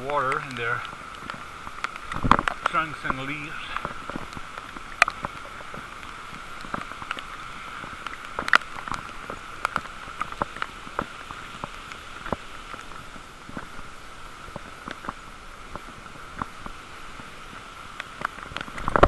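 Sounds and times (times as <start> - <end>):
rain hissing: 0.0 - 19.0
raindrops ticking close by: 0.0 - 19.0.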